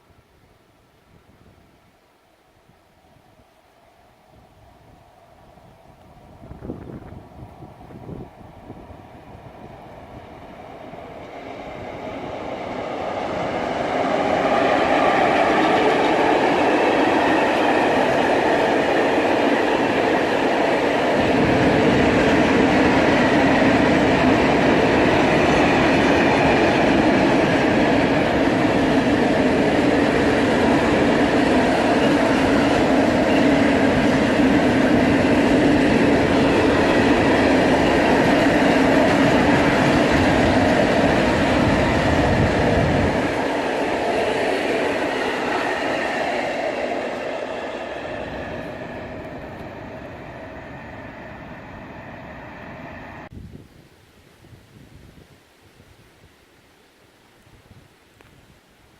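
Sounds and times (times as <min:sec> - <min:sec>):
freight train rumbling past: 0:04.3 - 0:53.4.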